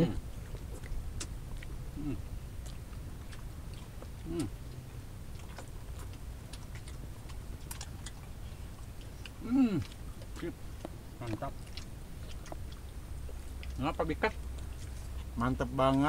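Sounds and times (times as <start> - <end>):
man chewing food: 0.0 - 16.0.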